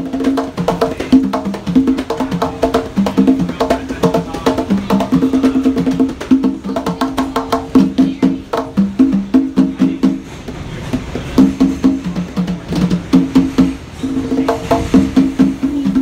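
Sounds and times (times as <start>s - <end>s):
hand drums played fast: 0.0s - 16.0s.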